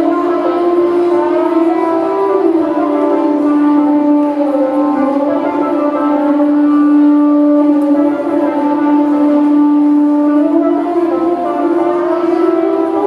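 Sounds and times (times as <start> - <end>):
slow music of held notes: 0.0 - 13.0.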